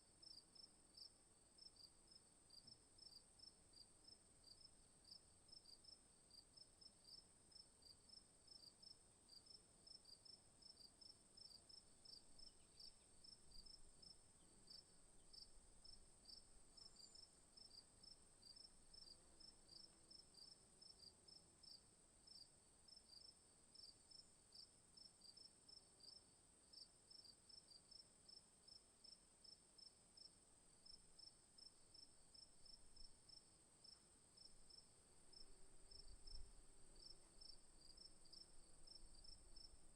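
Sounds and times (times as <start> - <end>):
crickets chirping: 7.1 - 39.9.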